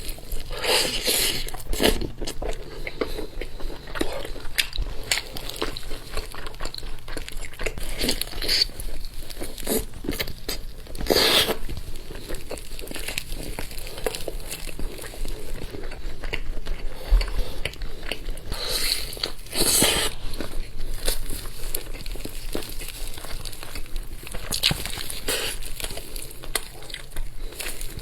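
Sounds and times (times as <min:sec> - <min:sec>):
person chewing meat crunching: 0:00.0 - 0:28.0.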